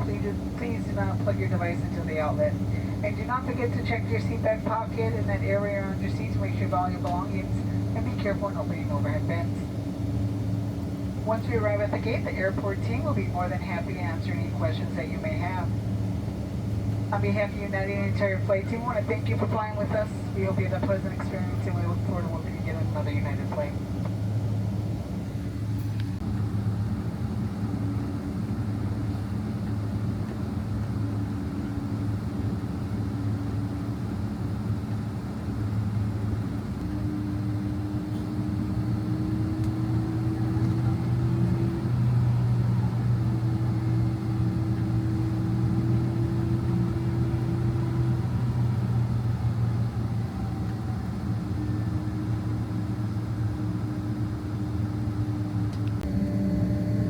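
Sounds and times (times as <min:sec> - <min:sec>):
jet engines low hum: 0:00.0 - 0:57.0.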